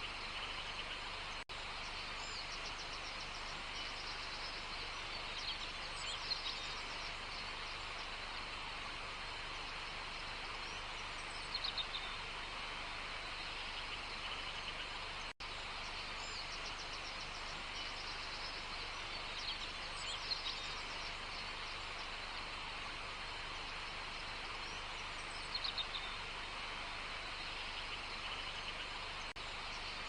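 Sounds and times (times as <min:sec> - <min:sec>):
steady dense hiss: 0:00.0 - 0:30.0.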